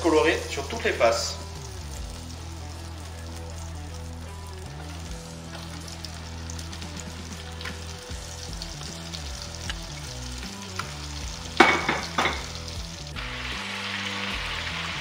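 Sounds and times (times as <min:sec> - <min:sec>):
chicken sizzling in hot oil: 0:00.0 - 0:15.0
loud oil crackles: 0:01.5 - 0:15.0.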